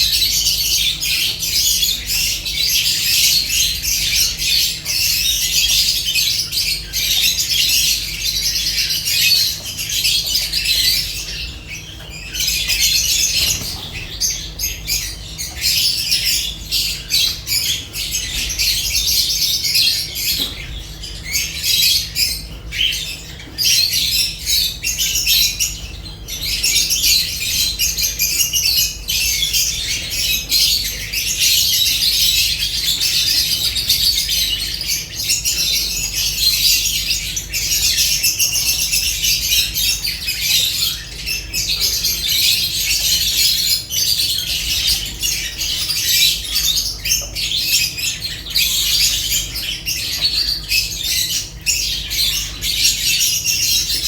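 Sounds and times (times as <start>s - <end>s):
lovebirds chattering and squawking: 0.0s - 54.0s.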